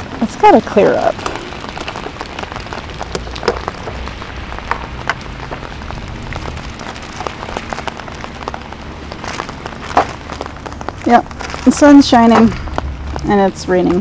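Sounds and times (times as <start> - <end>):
heavy rain falling: 0.0 - 14.0
raindrops ticking: 0.0 - 14.0.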